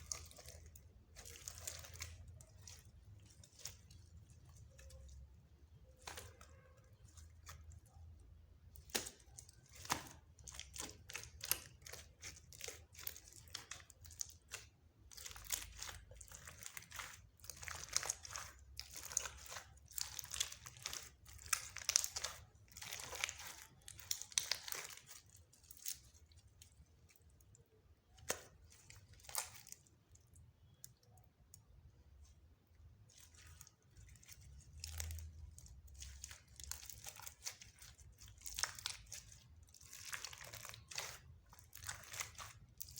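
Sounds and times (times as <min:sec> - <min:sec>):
slime crackling and popping: 0:00.0 - 0:31.7, 0:32.9 - 0:42.9.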